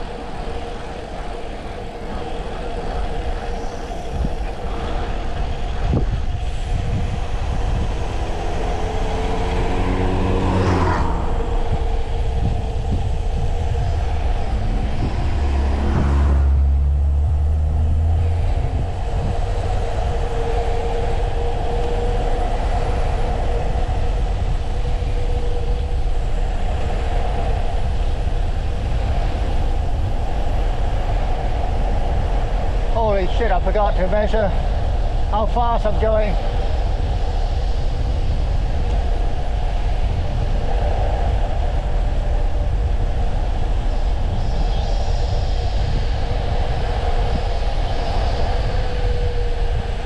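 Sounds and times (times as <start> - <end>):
bicycle tyre noise: 0.0 - 50.0
deep rumble: 0.0 - 50.0
wind rushing over microphone: 0.0 - 50.0.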